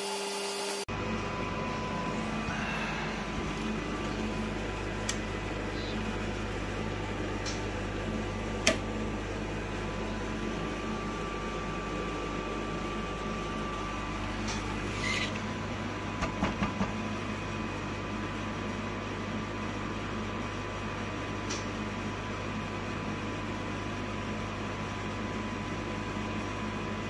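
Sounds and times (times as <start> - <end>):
coating machine humming: 0.0 - 27.0.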